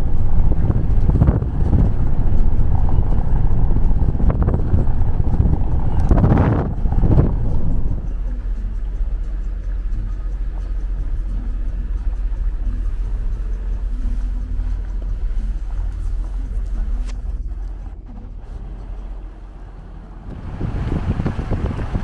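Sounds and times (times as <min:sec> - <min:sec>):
faint engine hum: 0:00.0 - 0:22.0
vehicle driving rumble: 0:00.0 - 0:22.0.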